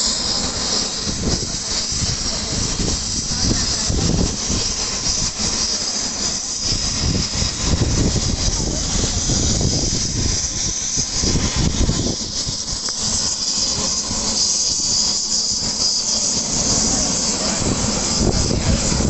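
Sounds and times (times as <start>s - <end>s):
helicopter turbine and rotor: 0.0s - 19.0s.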